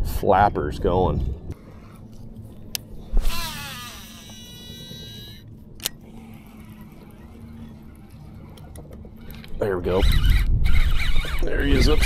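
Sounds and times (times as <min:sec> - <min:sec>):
low steady hum: 0:00.0 - 0:12.0
reel spool whining: 0:01.6 - 0:12.0.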